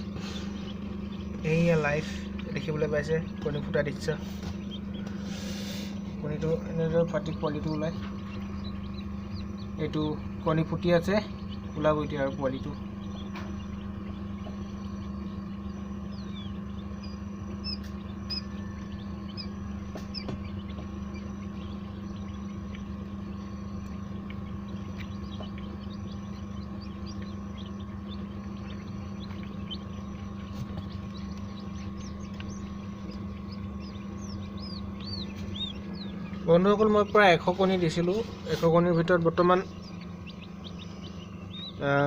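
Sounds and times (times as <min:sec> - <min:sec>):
low machine hum: 0:00.0 - 0:42.0
quail chicks peeping: 0:00.0 - 0:42.0.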